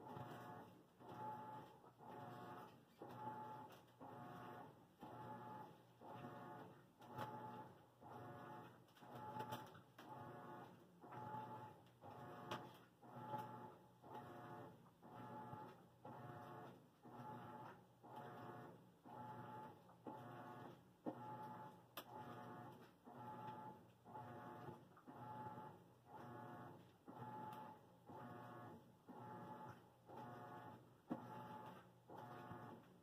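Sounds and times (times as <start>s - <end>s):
laundry machine whirring hum: 0.0s - 33.0s.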